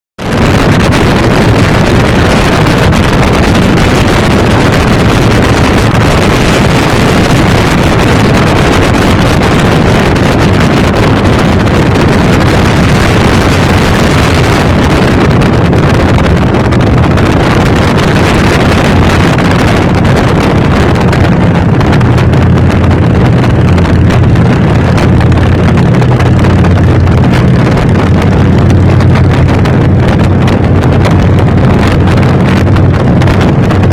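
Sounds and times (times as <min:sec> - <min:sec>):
motorcycle engine running: 0:00.2 - 0:33.9
wind noise on microphone: 0:00.2 - 0:33.9.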